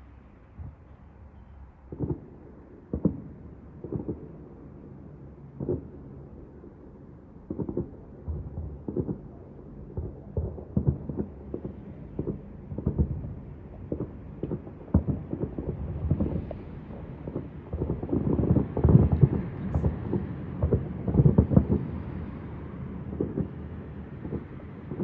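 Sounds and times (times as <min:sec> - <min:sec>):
distant fireworks booming: 0:01.8 - 0:25.0.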